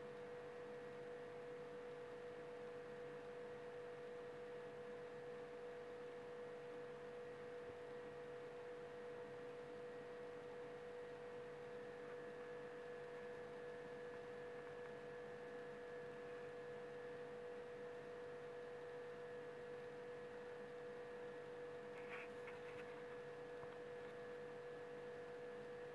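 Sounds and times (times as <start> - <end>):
faint electrical whine: 0.0 - 25.9.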